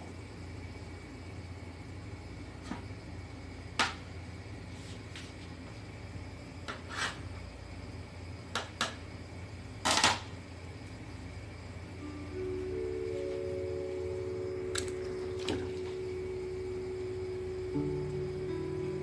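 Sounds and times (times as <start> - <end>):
gas stove humming: 0.0 - 19.0.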